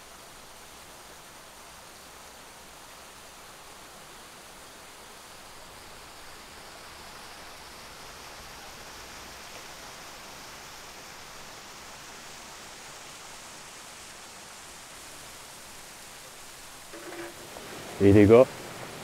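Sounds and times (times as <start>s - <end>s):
soft outdoor hiss: 0.0s - 19.0s.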